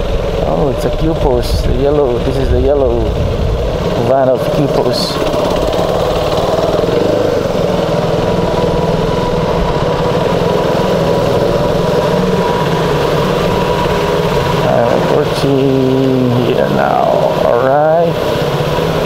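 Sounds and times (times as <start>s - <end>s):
light wind: 0.0s - 19.0s
motorcycle engine running: 0.0s - 19.0s
road hiss: 0.0s - 19.0s.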